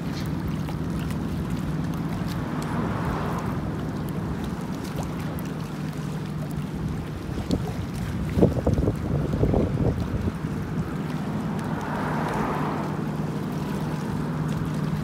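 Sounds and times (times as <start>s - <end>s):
choppy water: 0.0s - 15.0s
wind: 0.0s - 15.0s.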